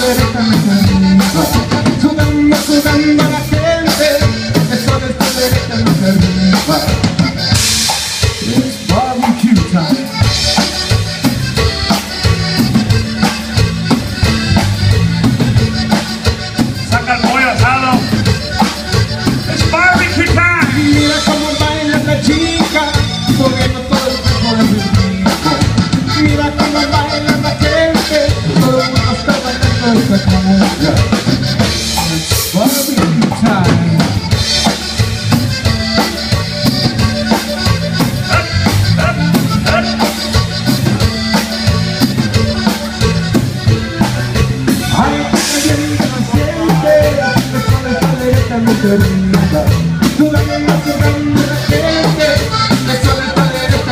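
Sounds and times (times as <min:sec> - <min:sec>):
bass: 0:00.0 - 0:53.9
drum kit dance beat: 0:00.0 - 0:53.9
electric guitar: 0:00.0 - 0:53.9.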